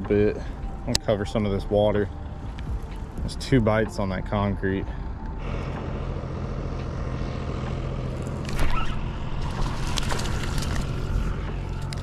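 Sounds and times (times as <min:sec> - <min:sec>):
engine rumbling and humming: 0:00.0 - 0:12.0.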